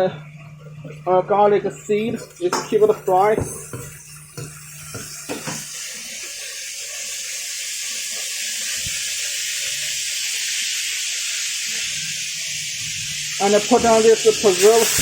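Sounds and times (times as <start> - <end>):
garlic sizzling in hot oil: 2.1 - 15.0.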